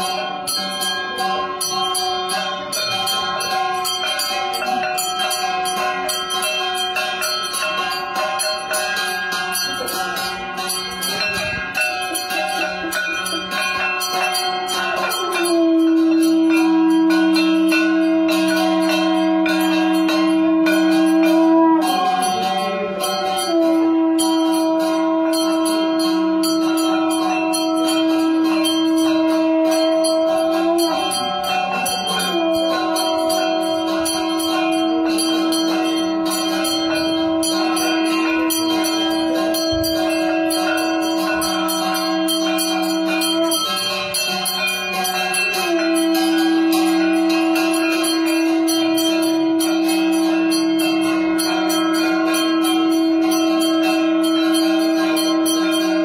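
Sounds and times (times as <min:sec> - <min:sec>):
hand bell ringing: 0:00.0 - 0:56.0
loud steady held tone: 0:00.0 - 0:56.0.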